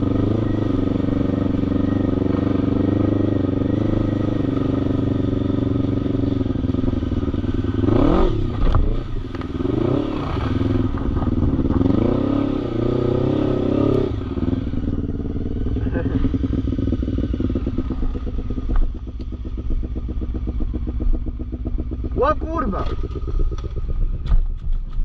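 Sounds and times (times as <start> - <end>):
quad bike engine revving: 0.0 - 24.9.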